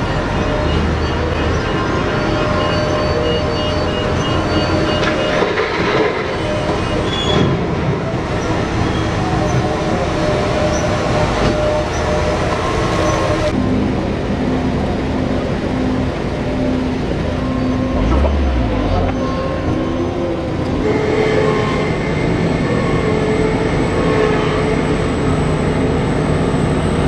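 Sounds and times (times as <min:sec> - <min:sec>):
large vehicle running: 0:00.0 - 0:27.0.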